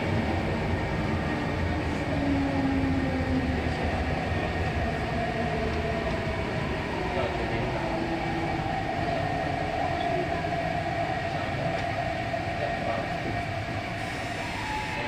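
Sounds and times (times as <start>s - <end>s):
train rumbling inside car: 0.0s - 15.0s.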